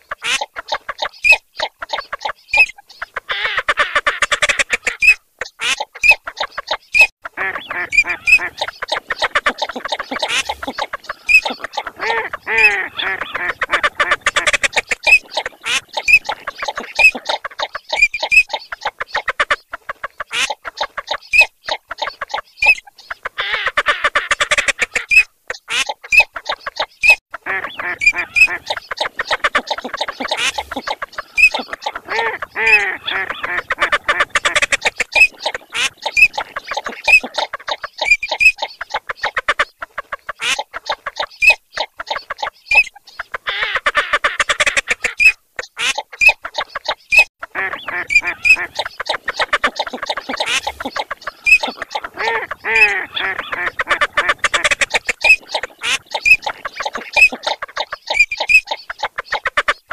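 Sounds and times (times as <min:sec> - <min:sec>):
ducks quacking and chattering: 0:00.0 - 0:59.9.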